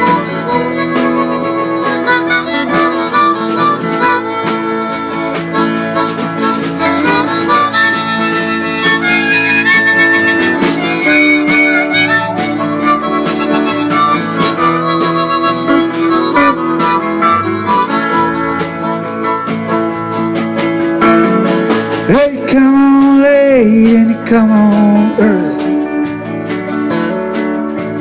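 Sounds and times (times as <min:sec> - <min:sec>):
harmonica bending melody: 0:00.0 - 0:28.0
strummed acoustic guitar: 0:00.0 - 0:28.0.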